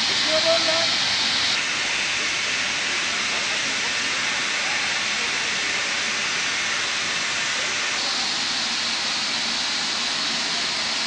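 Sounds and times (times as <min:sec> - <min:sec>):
gas escaping with loud hiss: 0:00.0 - 0:11.0.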